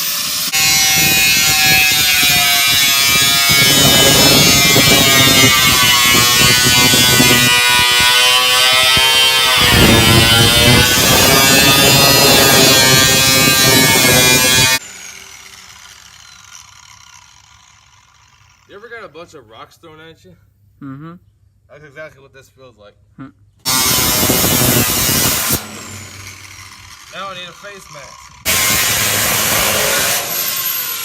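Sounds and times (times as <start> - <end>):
rotary power tool motor whine: 0.0 - 18.7, 23.7 - 31.0.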